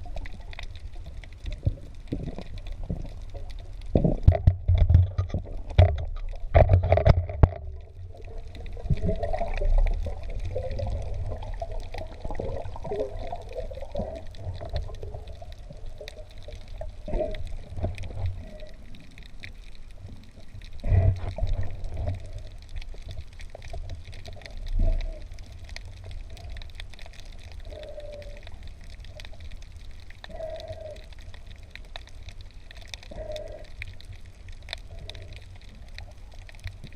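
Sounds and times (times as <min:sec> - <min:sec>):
muffled underwater water gurgling: 0:00.0 - 0:36.9.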